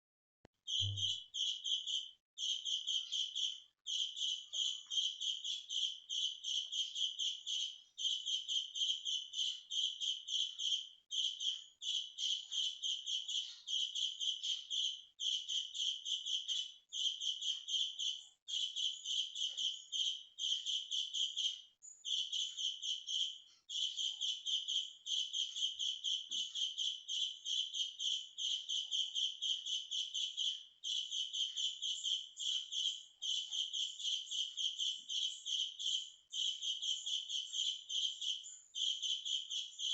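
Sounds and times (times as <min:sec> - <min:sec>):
birds chirping loudly: 0:00.7 - 0:39.9.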